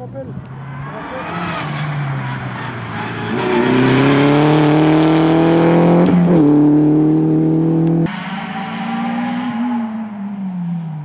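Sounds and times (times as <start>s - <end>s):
rally car engine accelerating: 0.2s - 11.0s.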